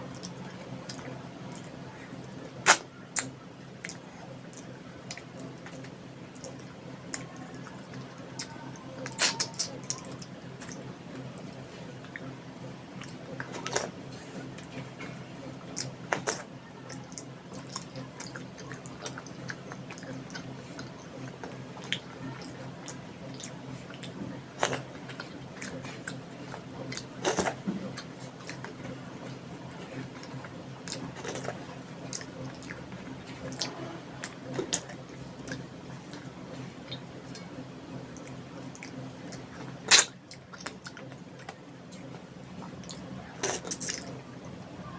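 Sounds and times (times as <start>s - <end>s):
wet chewing: 0.0s - 44.2s.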